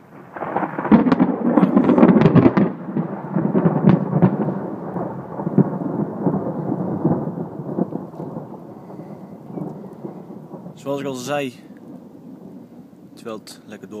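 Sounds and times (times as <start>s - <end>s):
thunder: 0.0s - 13.7s.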